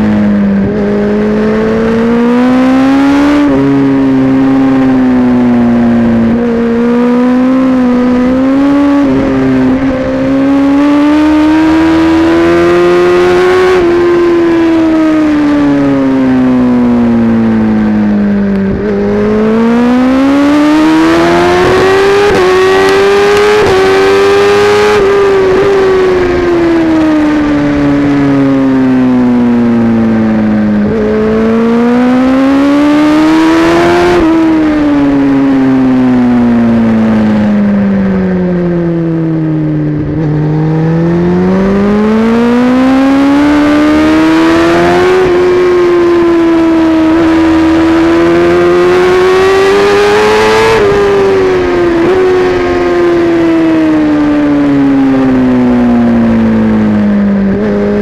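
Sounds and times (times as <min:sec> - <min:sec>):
gear changes: 0:00.0 - 0:58.0
motorcycle engine revving: 0:00.0 - 0:58.0.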